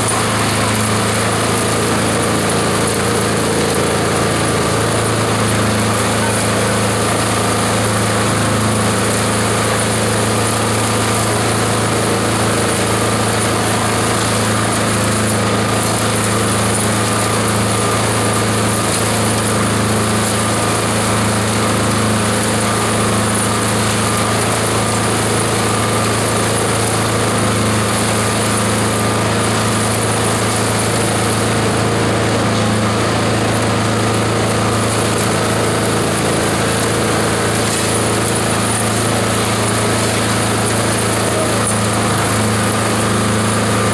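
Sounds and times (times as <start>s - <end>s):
shredder humming: 0.0s - 43.9s.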